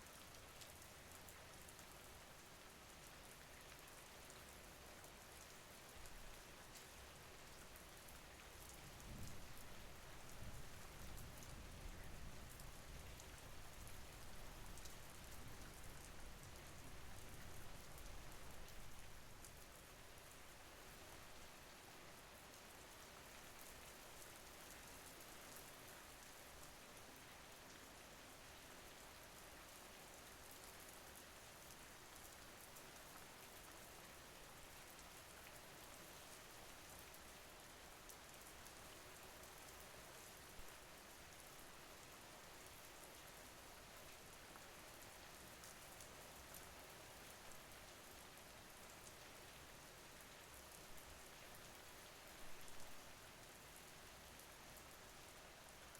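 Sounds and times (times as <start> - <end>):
soft rain hissing: 0.0 - 55.9.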